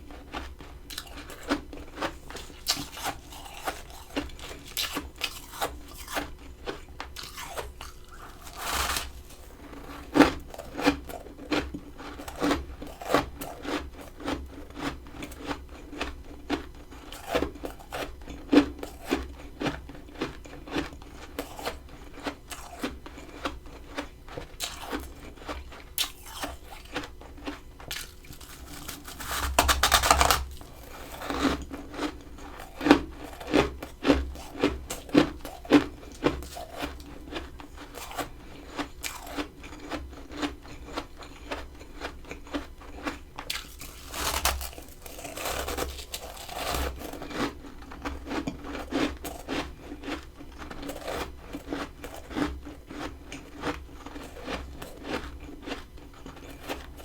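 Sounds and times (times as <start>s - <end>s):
biting and chewing frost: 0.0s - 57.0s.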